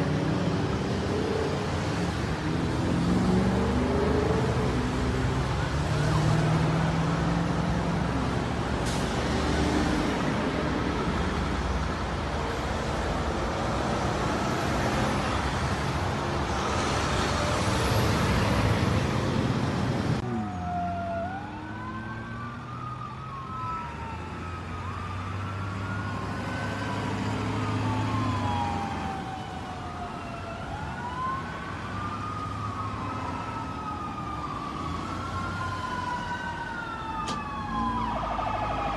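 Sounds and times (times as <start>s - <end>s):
emergency sirens wailing: 0.0s - 38.9s
heavy road traffic: 0.0s - 38.9s.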